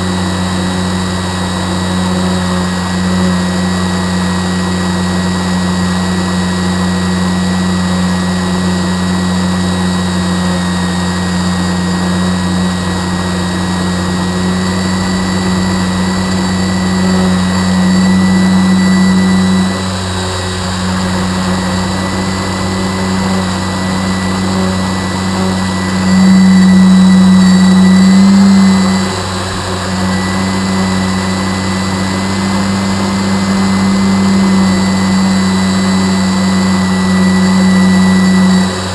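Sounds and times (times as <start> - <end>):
motor humming with high whine: 0.0 - 38.9.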